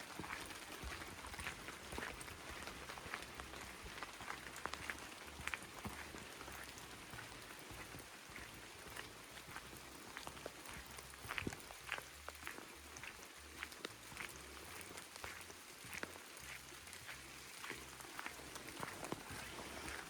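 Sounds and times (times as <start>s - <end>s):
rain falling through forest: 0.0s - 20.0s
sharp ticks of raindrops: 0.0s - 20.0s.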